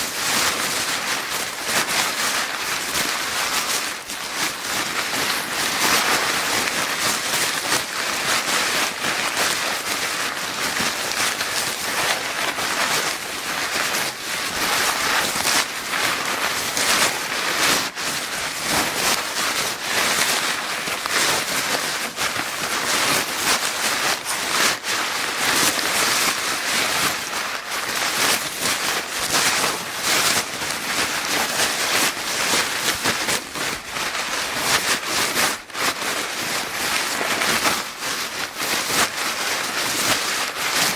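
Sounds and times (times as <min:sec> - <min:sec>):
paper bag crinkling: 0:00.0 - 0:40.9.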